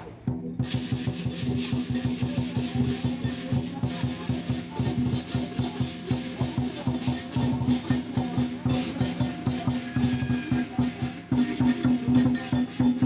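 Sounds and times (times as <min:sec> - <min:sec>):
large drum beating: 0:00.1 - 0:13.0
crashing cymbals: 0:00.6 - 0:13.0.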